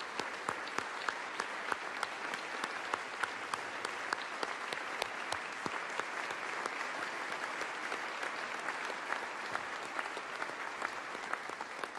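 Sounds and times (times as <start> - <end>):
audience clapping in echoing hall: 0.0 - 11.9.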